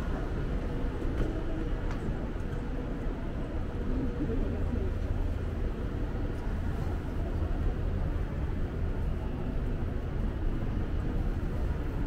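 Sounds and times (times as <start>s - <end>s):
railway station rumble and hum: 0.0s - 12.0s.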